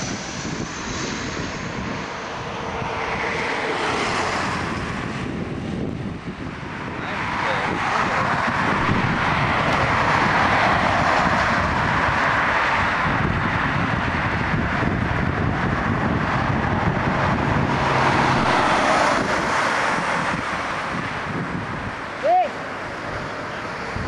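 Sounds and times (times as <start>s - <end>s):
jet engines passing close: 0.0s - 24.0s.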